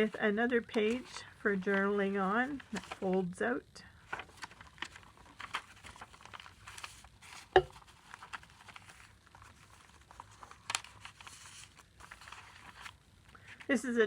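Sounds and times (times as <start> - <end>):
paper pages rustling: 0.0 - 3.3, 4.0 - 13.8.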